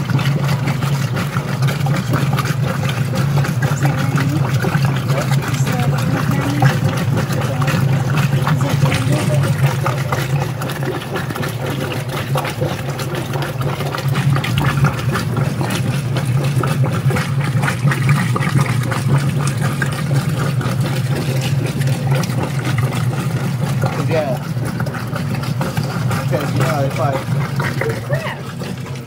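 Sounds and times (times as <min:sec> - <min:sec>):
washing machine motor hum: 0:00.0 - 0:29.0
water churning in tub: 0:00.0 - 0:29.0.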